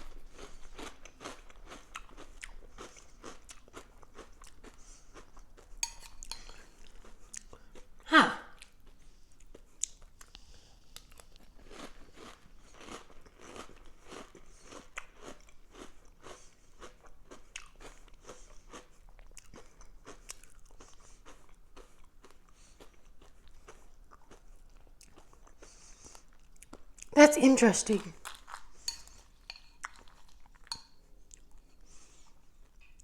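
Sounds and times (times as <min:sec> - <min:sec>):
cereal crunching while chewed: 0:00.0 - 0:07.9, 0:08.6 - 0:27.1, 0:27.9 - 0:33.0.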